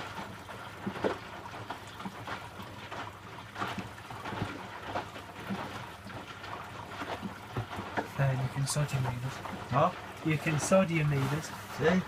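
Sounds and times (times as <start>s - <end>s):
washing machine drum tumbling laundry: 0.0s - 12.0s
water sloshing and splashing: 0.0s - 12.0s.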